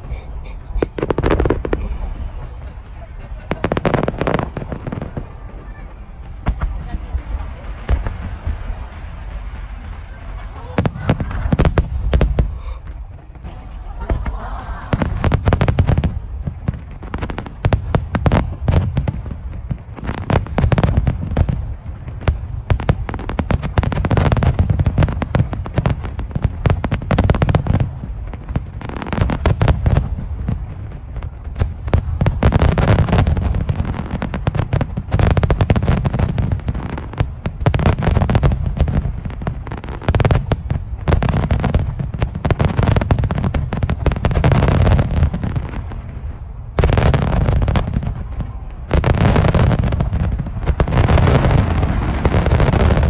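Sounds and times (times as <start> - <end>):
fireworks crackling: 0.0 - 53.0
fireworks shell explosions booming: 0.0 - 53.0.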